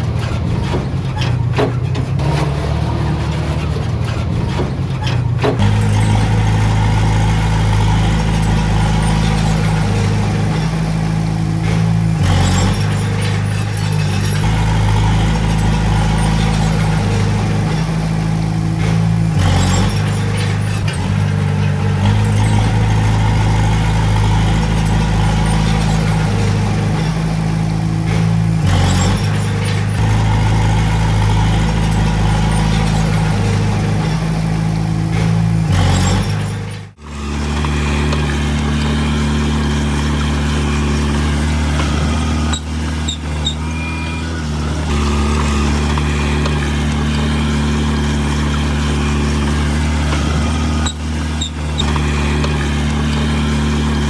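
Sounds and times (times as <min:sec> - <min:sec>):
diesel engine under load: 0:00.0 - 0:54.0
steady engine drone: 0:00.0 - 0:54.0.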